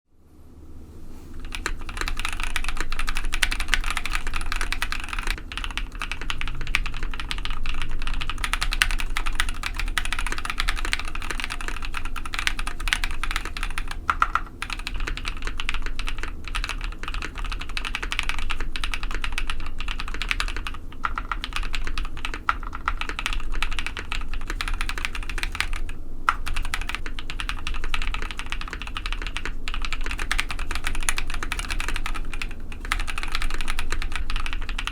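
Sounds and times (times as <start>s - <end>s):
mechanical keyboard typing: 1.4s - 34.9s.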